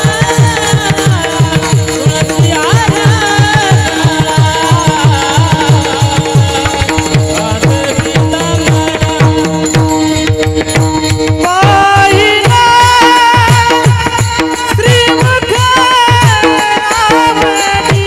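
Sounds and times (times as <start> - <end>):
person singing devotional melody: 0.0 - 18.0.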